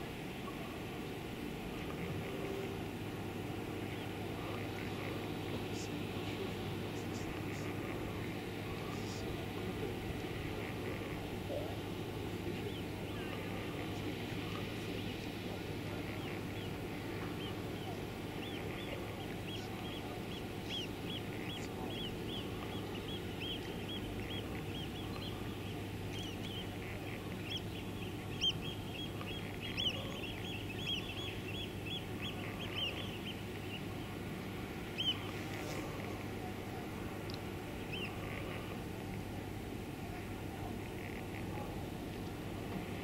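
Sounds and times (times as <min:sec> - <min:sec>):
birds chirping: 0:00.0 - 0:43.0
steady low hum: 0:00.0 - 0:43.0.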